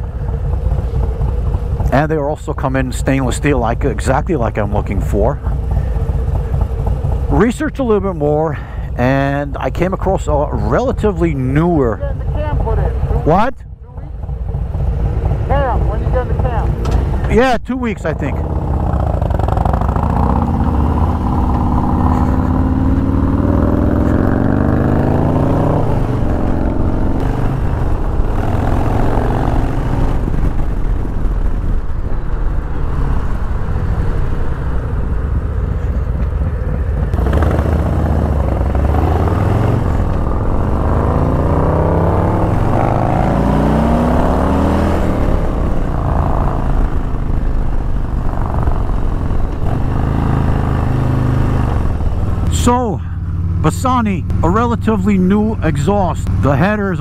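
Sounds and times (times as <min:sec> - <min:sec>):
motorcycles accelerating: 0:00.0 - 0:13.5, 0:14.1 - 0:57.0
wind and road noise: 0:00.0 - 0:57.0.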